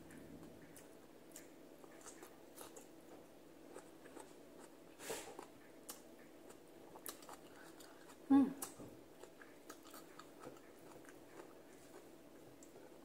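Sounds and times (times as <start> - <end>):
chewing and mouth clicks: 0.1 - 13.0.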